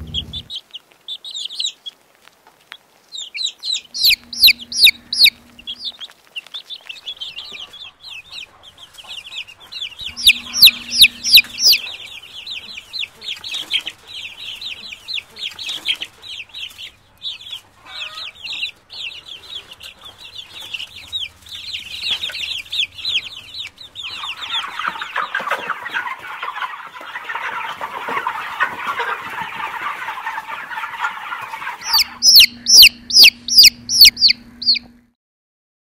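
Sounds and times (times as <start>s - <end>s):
chicks peeping: 0.0s - 35.1s
chatter of many birds: 3.1s - 35.0s.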